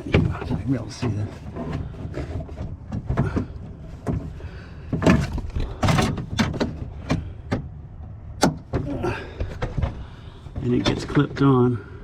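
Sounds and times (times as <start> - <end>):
knocks and rattles inside car door: 0.0 - 7.7, 8.4 - 11.4.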